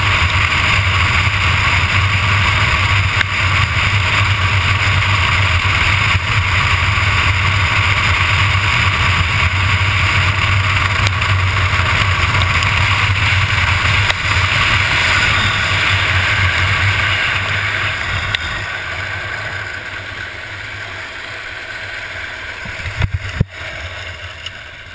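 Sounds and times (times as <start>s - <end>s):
wind rushing over microphone: 0.0s - 21.0s, 22.6s - 24.9s
wheels rolling on asphalt: 0.0s - 24.9s.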